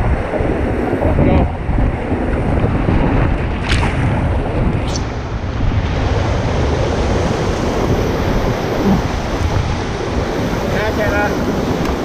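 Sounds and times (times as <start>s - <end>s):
whitewater rushing and splashing: 0.0s - 12.0s
wind buffeting microphone: 0.0s - 12.0s.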